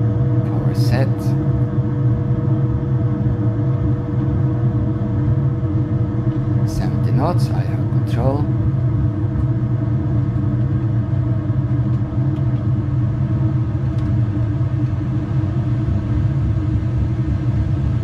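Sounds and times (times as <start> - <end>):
low rumble: 0.0 - 18.0
propeller drone: 0.0 - 18.0.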